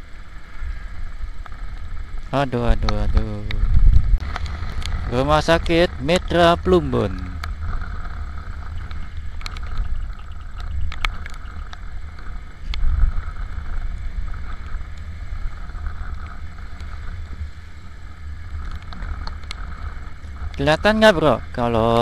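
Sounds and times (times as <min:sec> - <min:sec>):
wind rumbling on microphone: 0:00.0 - 0:22.0
raindrops ticking on camera: 0:01.4 - 0:21.1.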